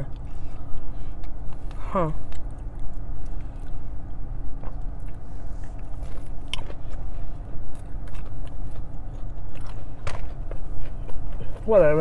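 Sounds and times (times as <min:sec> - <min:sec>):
chewing fried chicken: 0:00.0 - 0:12.0
steady low hum: 0:00.0 - 0:12.0.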